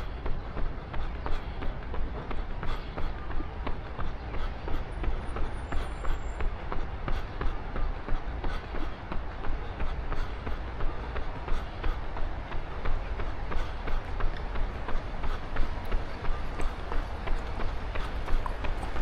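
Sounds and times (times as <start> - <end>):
running footsteps on pavement: 0.0 - 19.0.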